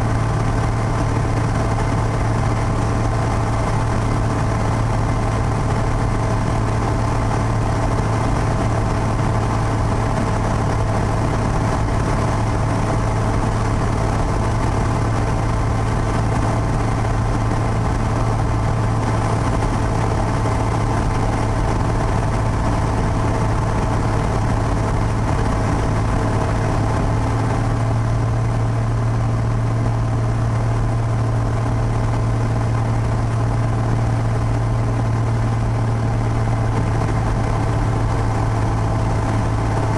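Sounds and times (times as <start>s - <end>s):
propeller plane engine humming: 0.0s - 39.9s.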